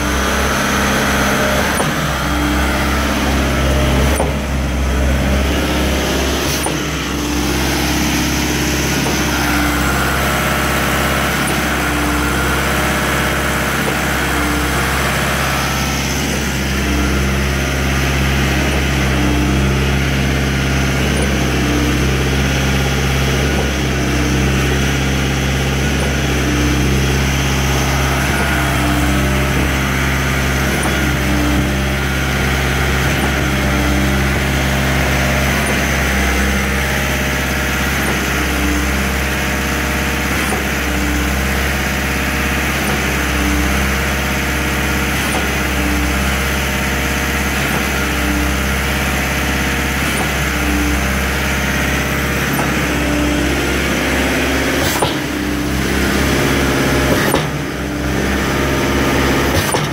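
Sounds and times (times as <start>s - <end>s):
concrete pump engine droning: 0.0s - 59.9s.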